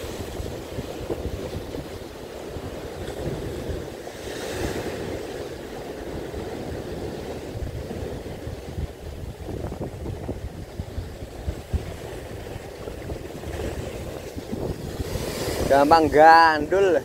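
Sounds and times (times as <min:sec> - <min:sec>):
choppy sea waves: 0:00.0 - 0:17.0
wind buffeting microphone: 0:00.0 - 0:17.0.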